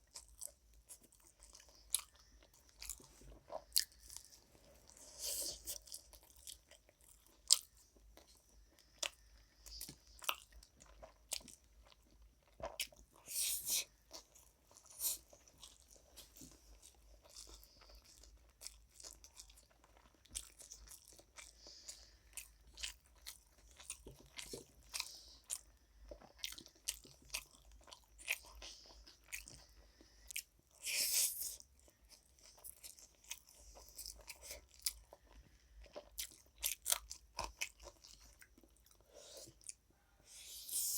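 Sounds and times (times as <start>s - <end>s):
person chewing: 0.0s - 40.9s.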